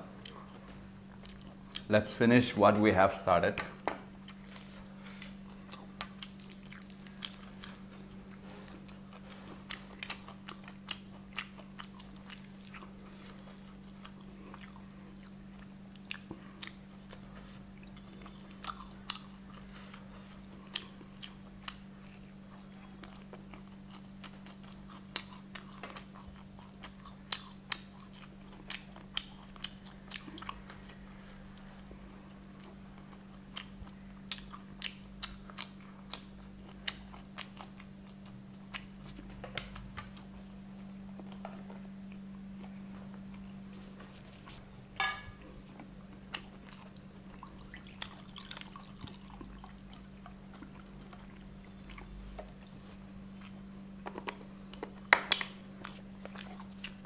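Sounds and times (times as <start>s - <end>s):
steady low hum: 0.0s - 57.0s
chewing and crunching crispy food: 0.2s - 1.9s, 4.2s - 44.6s, 45.4s - 57.0s.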